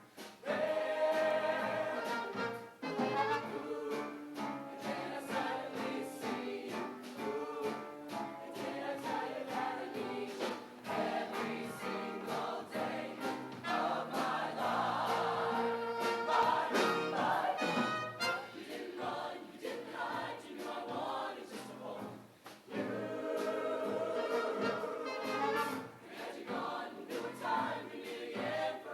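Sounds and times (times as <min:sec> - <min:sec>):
instrumental accompaniment: 0:00.0 - 0:19.3, 0:22.7 - 0:26.7
choir singing: 0:00.4 - 0:28.9.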